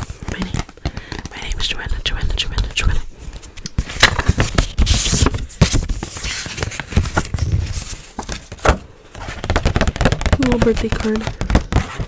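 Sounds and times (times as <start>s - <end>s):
paper card crackling and scraping: 0.0s - 12.0s
paper rustle: 0.0s - 12.0s.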